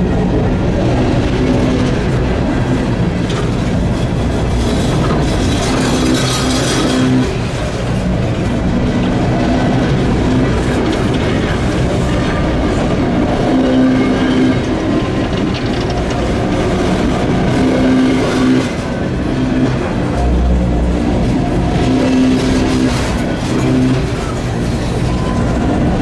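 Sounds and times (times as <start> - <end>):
freight train wheels on rails: 0.0 - 26.0.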